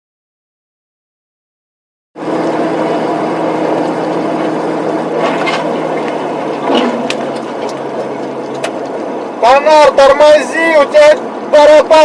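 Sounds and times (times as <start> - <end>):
vehicle engine hum and road noise: 2.2 - 12.0.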